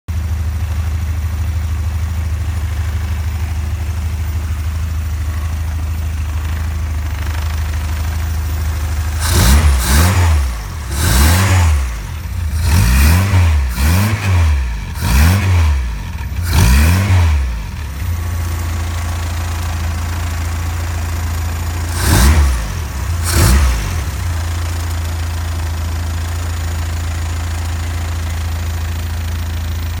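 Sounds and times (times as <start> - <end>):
car engine idling and revving: 0.1 - 30.0.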